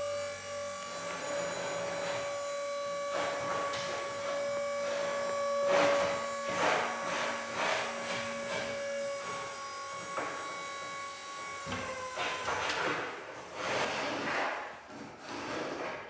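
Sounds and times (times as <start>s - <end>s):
hydraulic lift motor whining: 0.0s - 13.2s.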